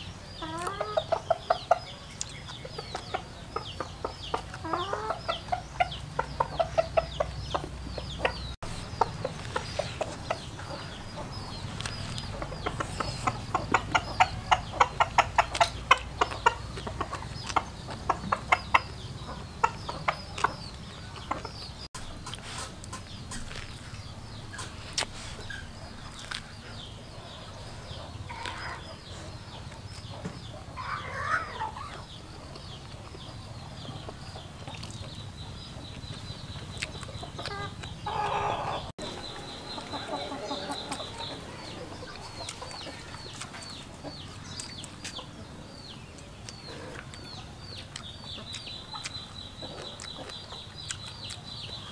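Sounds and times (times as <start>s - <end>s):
chickens clucking: 0.0s - 51.9s
high chirping: 0.0s - 51.9s.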